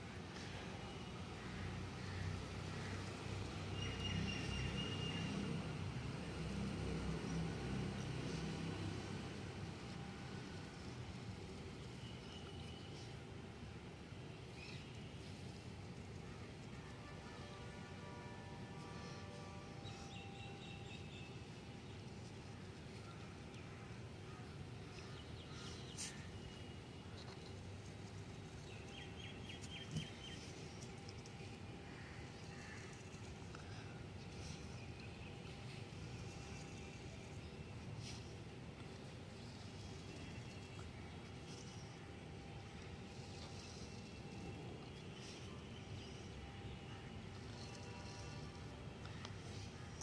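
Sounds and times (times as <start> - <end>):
faint background noise: 0.0 - 50.0.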